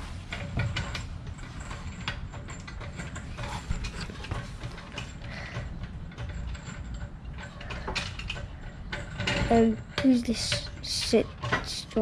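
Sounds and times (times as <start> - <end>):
metal tools clinking and knocking: 0.0 - 12.0.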